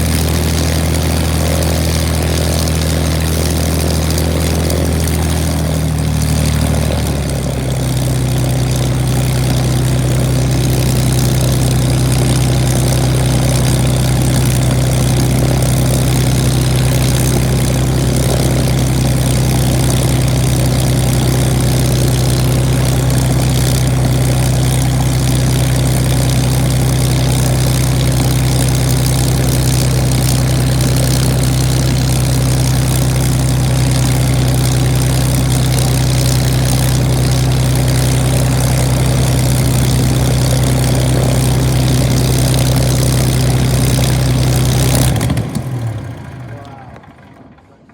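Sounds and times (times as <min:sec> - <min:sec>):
piston aircraft engine running: 0:00.0 - 0:47.9.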